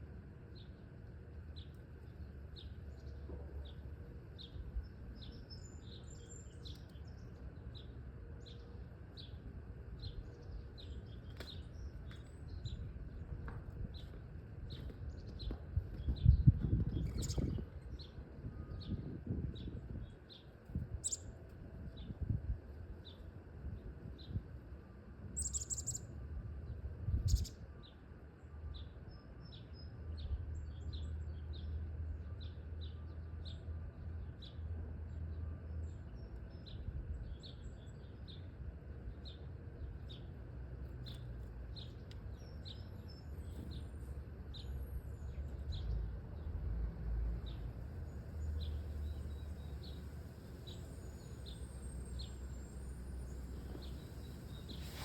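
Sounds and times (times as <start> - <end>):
steady low rumble: 0.0 - 27.8, 36.6 - 55.0.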